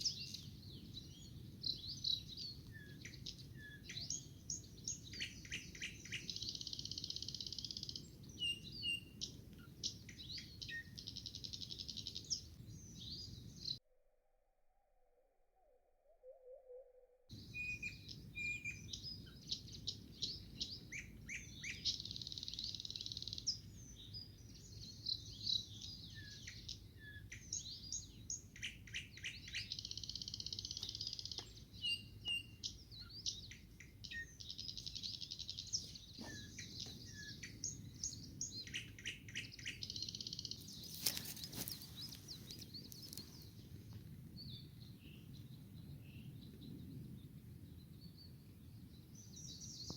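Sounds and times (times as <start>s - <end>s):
songbird singing trills: 0.0s - 13.8s, 15.6s - 49.9s.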